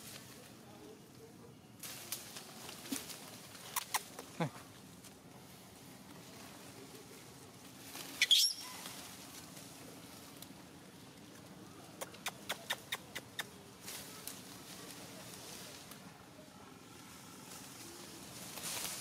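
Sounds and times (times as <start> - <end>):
faint forest background: 0.0 - 19.0.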